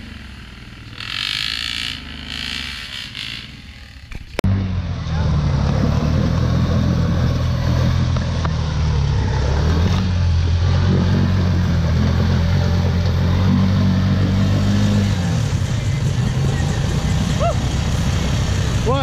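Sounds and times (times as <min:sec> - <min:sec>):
atv engine running at low revs: 0:00.0 - 0:19.0.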